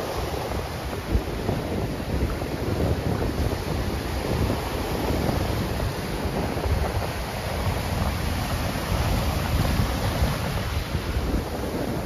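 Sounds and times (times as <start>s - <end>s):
surf washing on sandy beach: 0.0s - 12.0s
wind buffeting microphone: 0.0s - 12.0s.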